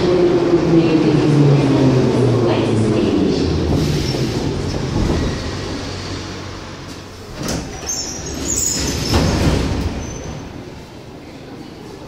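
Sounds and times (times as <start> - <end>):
metro car rumbling to a stop: 0.0 - 12.0.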